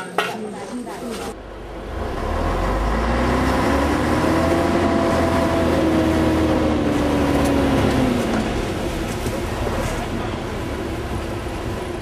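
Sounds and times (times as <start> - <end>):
truck engine rumbling: 0.5 - 12.0.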